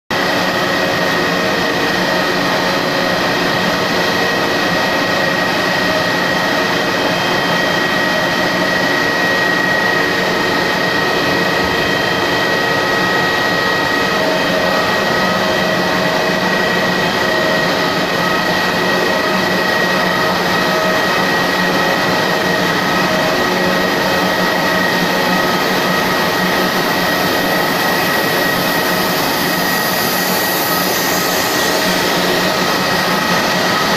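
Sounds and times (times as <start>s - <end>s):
high-pitched machine whine: 0.1s - 33.9s
extrusion machine running: 0.2s - 33.9s.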